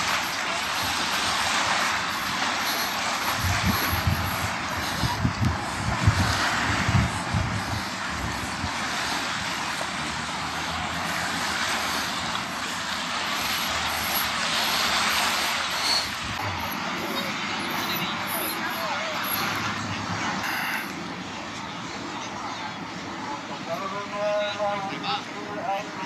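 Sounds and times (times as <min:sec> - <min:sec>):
sea breeze: 0:00.0 - 0:26.0
surf washing: 0:00.0 - 0:26.0.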